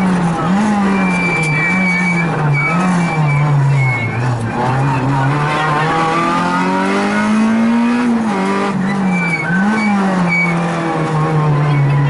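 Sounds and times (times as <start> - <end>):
rally car engine accelerating: 0.0 - 12.0
road and cabin noise: 0.0 - 12.0.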